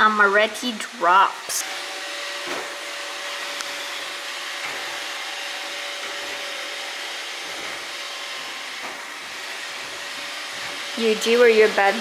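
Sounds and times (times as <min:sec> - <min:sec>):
robot vacuum cleaner whirring: 0:00.0 - 0:12.0.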